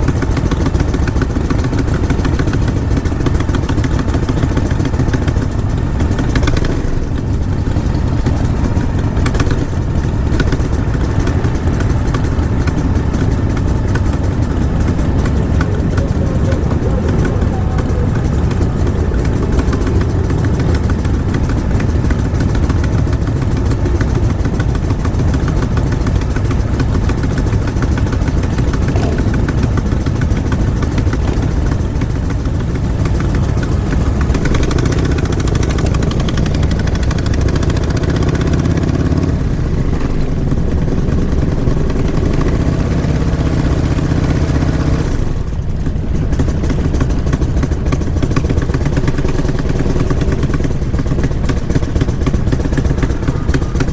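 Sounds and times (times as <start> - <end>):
motorcycle engines rumbling: 0.0 - 53.9.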